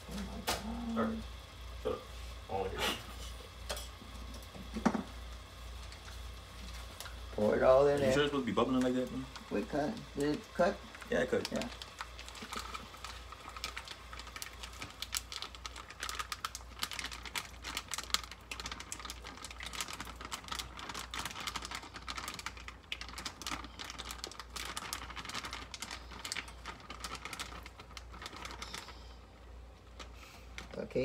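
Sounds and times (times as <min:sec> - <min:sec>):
butter crackling in a pot: 0:00.3 - 0:31.0.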